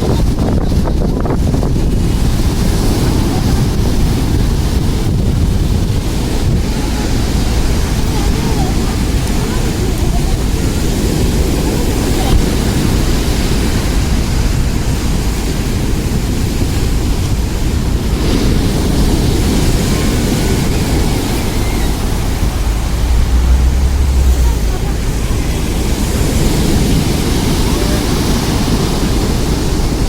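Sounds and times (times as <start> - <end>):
wind rumbling on microphone: 0.0 - 30.0
waves breaking on pebble beach: 0.8 - 30.0.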